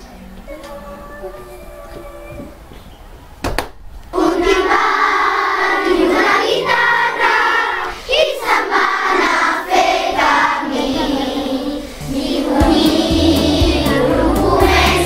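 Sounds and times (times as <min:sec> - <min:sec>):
children singing together: 0:00.0 - 0:02.7, 0:04.1 - 0:15.0.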